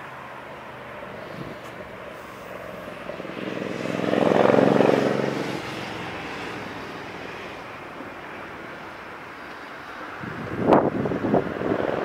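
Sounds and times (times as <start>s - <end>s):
jet airliner engines: 0.0s - 12.0s.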